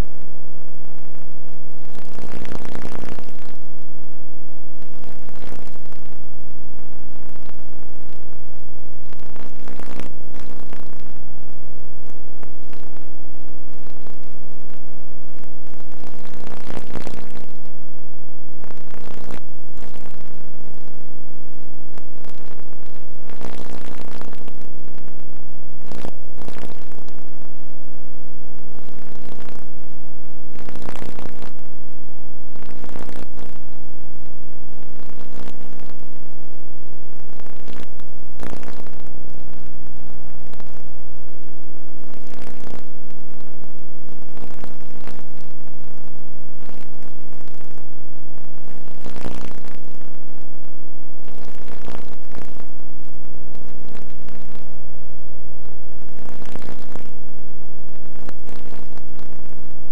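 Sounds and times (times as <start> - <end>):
crackling noise bursts: 0.0 - 59.9
loud buzzing hum: 0.0 - 59.9.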